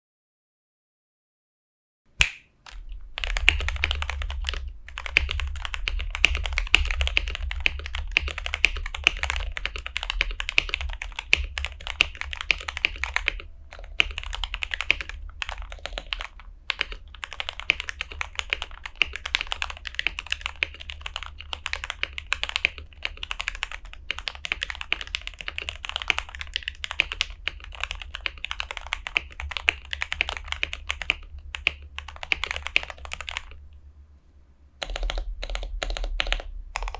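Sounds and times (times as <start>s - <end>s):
steady low hum: 2.5s - 36.9s
mechanical keyboard typing: 2.7s - 33.6s, 34.8s - 36.9s.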